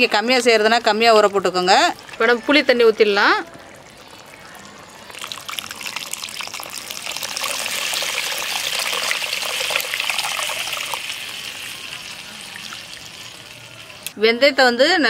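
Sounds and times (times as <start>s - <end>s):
water splashing and trickling into pot: 0.0s - 14.1s.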